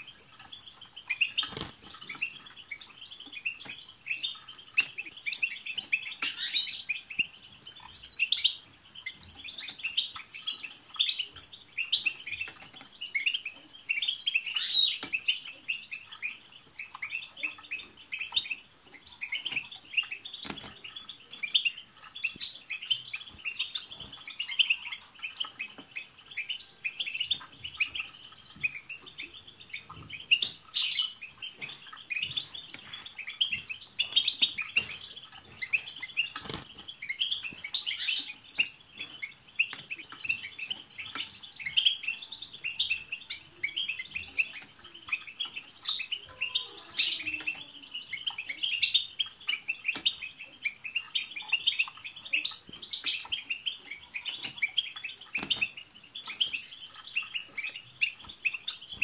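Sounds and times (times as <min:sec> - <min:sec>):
goldfinches twittering and chirping: 0:00.0 - 0:59.0.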